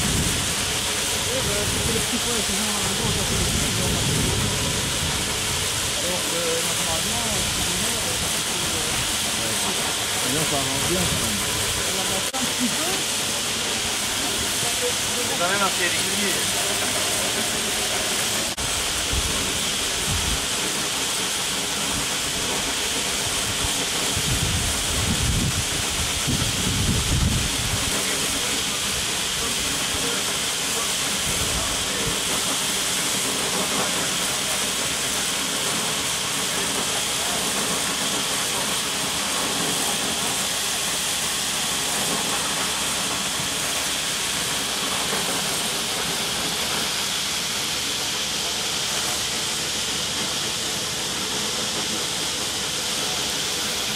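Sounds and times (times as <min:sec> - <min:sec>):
compressed-air spray nozzle hissing: 0:00.0 - 0:53.9.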